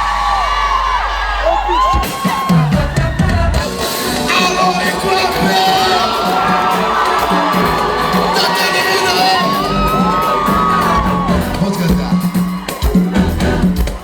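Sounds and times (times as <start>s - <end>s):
crowd cheering and whooping: 0.0s - 14.0s
loud live music: 0.0s - 14.0s.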